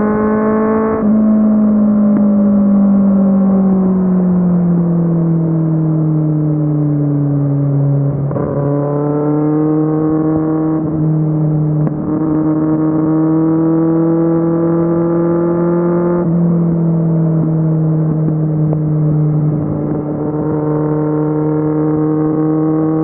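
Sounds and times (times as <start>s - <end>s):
motorcycle engine droning: 0.0s - 23.0s.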